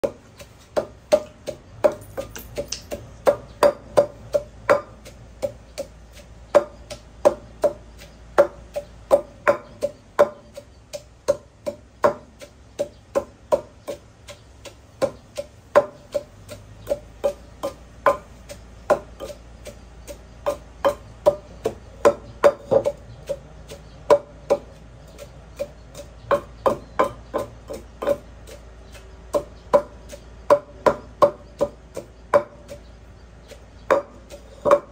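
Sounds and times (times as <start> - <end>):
wooden pestle pounding in mortar: 0.0 - 34.9.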